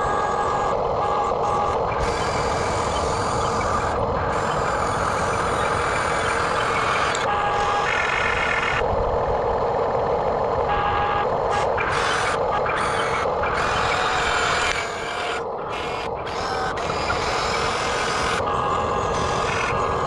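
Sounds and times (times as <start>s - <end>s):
model excavator mechanical whine: 0.0s - 20.0s.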